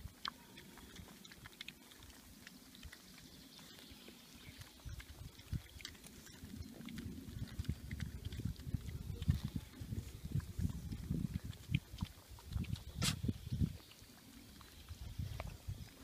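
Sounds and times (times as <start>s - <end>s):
snouts rustling through soil: 0.7s - 16.0s.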